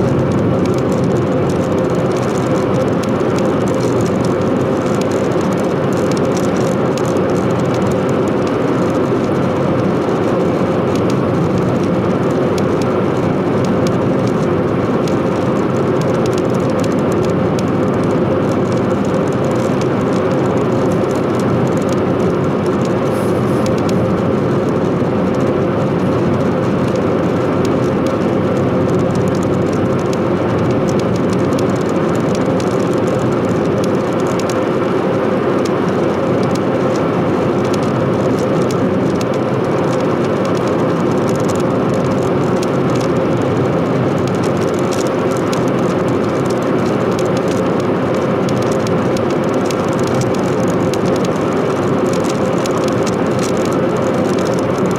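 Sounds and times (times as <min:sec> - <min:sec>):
car engine drone: 0:00.0 - 0:54.9.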